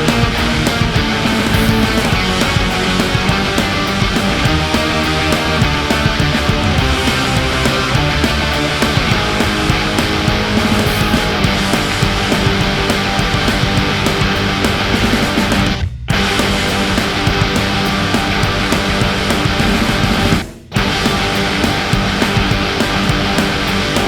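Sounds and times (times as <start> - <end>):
loud background music: 0.0 - 24.0.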